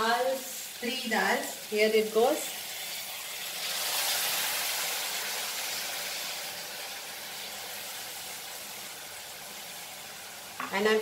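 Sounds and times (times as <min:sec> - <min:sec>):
lentils sizzling in hot oil: 0:00.0 - 0:11.0.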